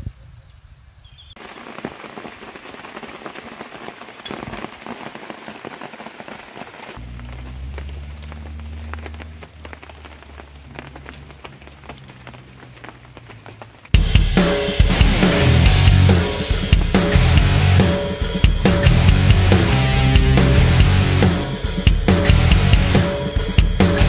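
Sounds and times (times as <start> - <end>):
rain pattering on tarp: 1.4 - 24.0.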